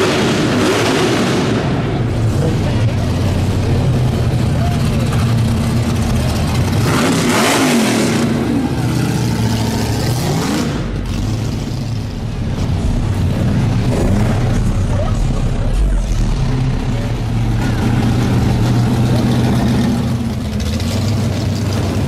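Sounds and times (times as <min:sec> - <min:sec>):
car engines running: 0:00.0 - 0:22.0
engine revving: 0:00.0 - 0:22.0.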